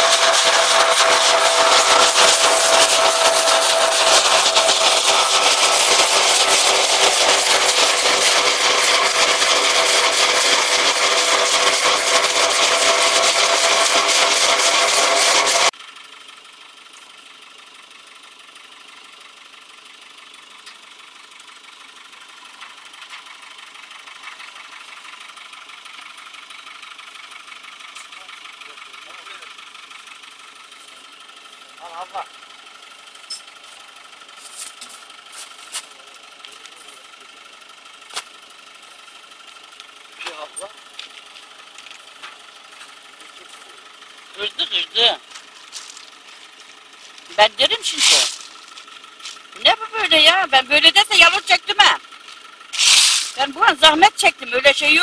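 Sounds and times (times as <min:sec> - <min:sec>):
thresher running with whine: 0:00.0 - 0:55.0.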